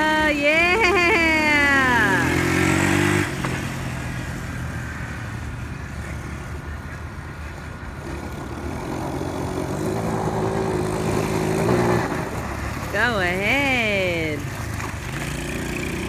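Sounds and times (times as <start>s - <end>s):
quad bike engine: 0.0s - 16.0s.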